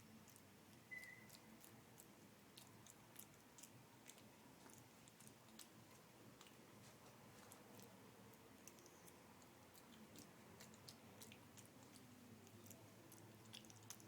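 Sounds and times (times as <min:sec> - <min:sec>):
monkey chewing food: 0:00.1 - 0:14.0.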